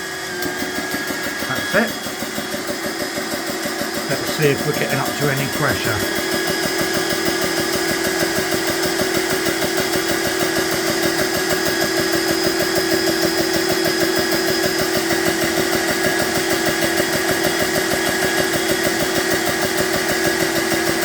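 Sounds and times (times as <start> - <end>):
air compressor pump pulsing: 0.0 - 21.0.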